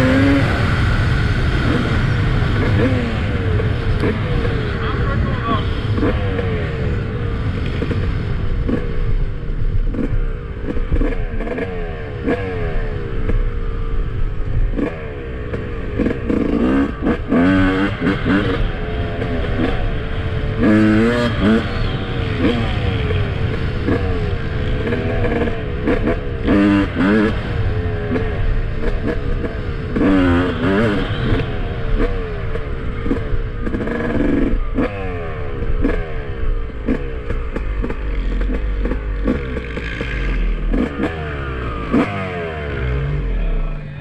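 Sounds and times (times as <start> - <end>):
two-stroke engine revving: 0.0 - 44.0.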